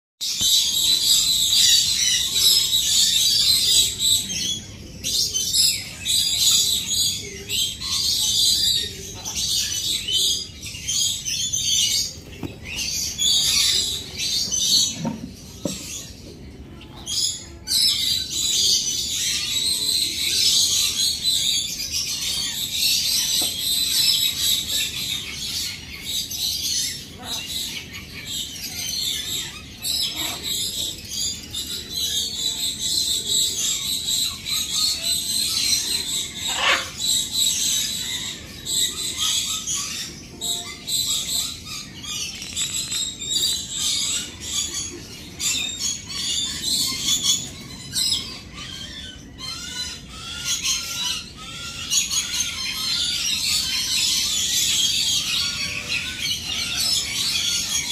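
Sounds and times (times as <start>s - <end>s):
finches chirping and twittering: 0.2s - 57.9s.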